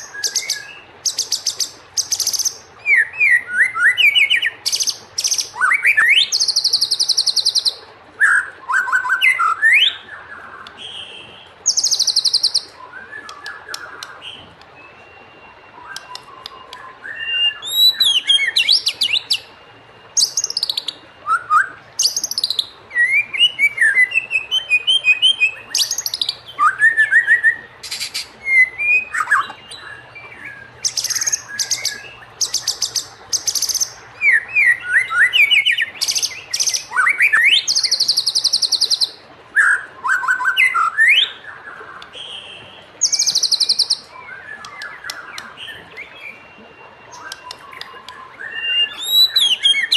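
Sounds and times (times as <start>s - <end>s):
bird singing: 0.0s - 49.9s.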